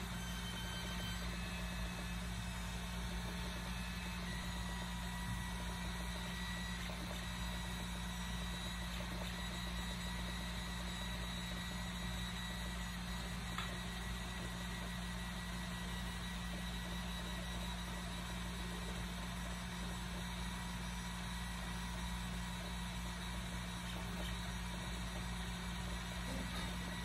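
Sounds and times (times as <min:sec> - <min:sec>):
cooling fans humming: 0:00.0 - 0:27.0
stepper motors whining: 0:00.0 - 0:27.0.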